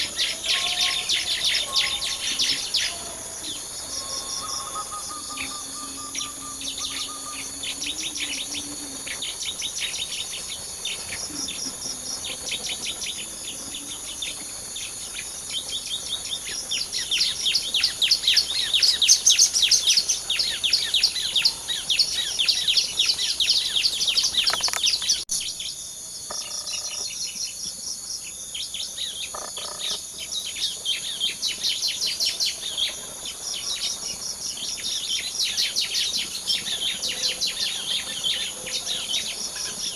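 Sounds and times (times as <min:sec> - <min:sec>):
high insect drone: 0:00.0 - 0:39.9
small birds chirping in trills: 0:00.0 - 0:39.9.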